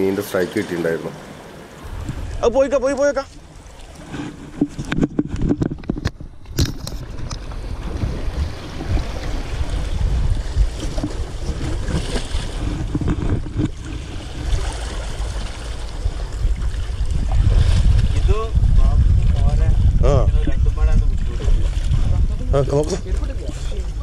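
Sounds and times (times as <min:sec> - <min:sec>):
sea waves washing on rocks: 0:00.0 - 0:24.0
wind buffeting microphone: 0:01.8 - 0:24.0.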